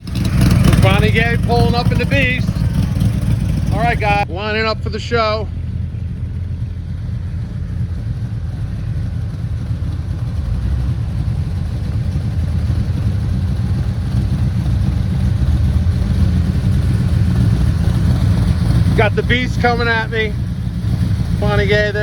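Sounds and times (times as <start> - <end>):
car engine deep rumble: 0.0 - 22.0.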